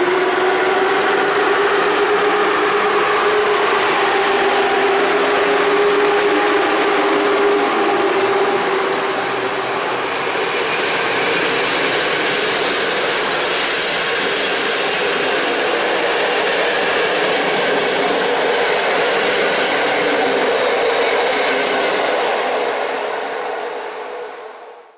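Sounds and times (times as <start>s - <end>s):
electric locomotive hum: 0.0s - 24.9s
train wheels on rails: 0.0s - 24.9s.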